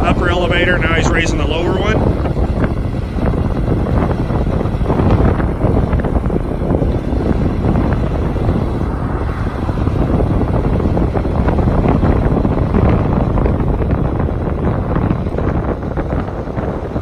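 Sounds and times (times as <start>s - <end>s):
diesel truck engine running: 0.0s - 17.0s
wind buffeting microphone: 0.0s - 17.0s.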